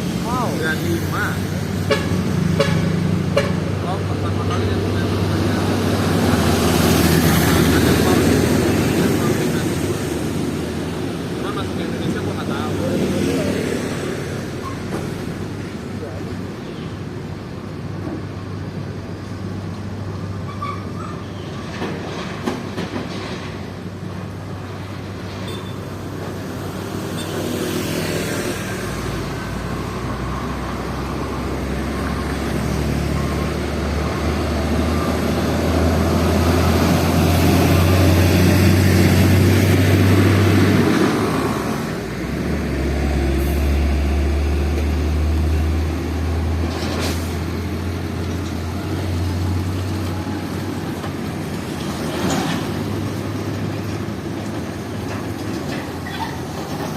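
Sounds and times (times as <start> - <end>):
heavy trucks driving past: 0.0 - 56.9.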